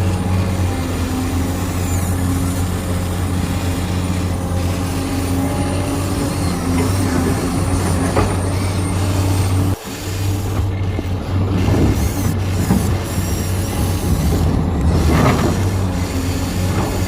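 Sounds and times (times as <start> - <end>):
electric motors of model vehicle: 0.0 - 17.0.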